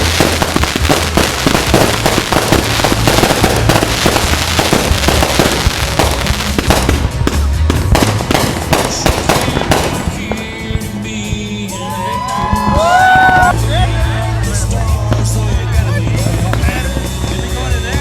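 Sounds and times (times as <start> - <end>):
fireworks bangs and crackling: 0.0 - 18.0
music playing: 0.0 - 18.0.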